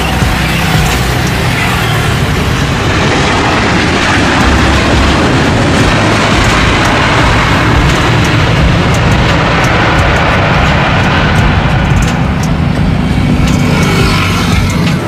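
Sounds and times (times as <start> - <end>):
jet airliner landing: 0.0 - 15.0.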